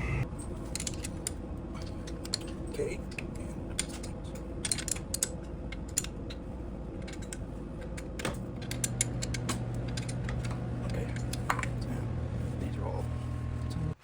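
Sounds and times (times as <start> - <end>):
steady low hum: 0.0 - 14.0
tools clicking and clinking: 0.6 - 11.9.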